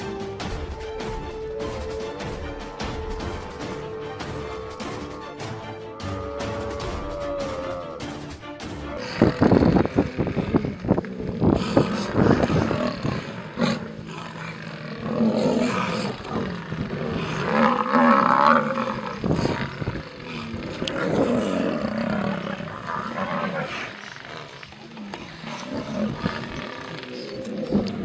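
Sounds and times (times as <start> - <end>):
lions growling: 1.6 - 28.0.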